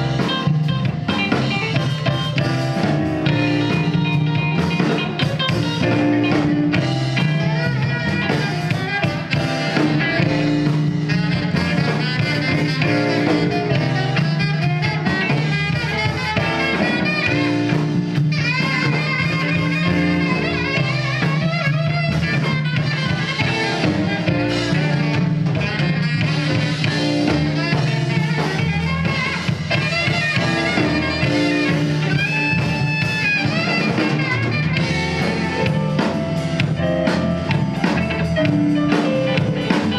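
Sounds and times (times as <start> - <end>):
bass line: 0.0 - 39.9
drums: 0.0 - 39.9
lead melody: 0.0 - 39.9.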